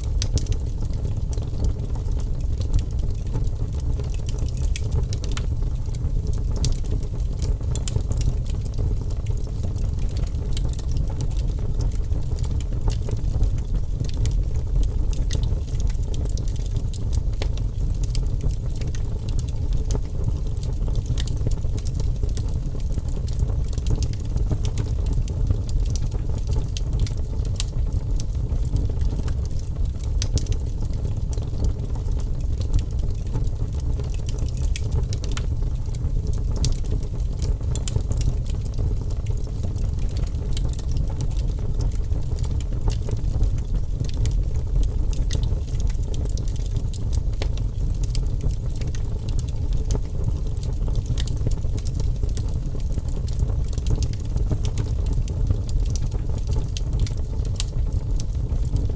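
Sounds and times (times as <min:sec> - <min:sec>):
low rumble of flames: 0:00.0 - 0:58.9
wood fire crackling and popping: 0:00.0 - 0:58.9.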